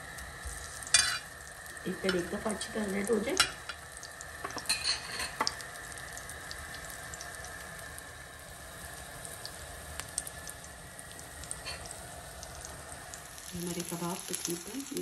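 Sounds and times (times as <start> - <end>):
cutlets sizzling in hot oil: 0.0 - 15.0.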